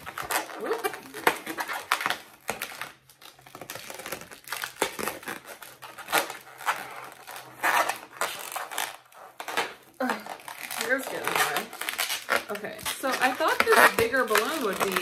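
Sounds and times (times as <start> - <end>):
rubber balloon squeaking: 0.0 - 15.0.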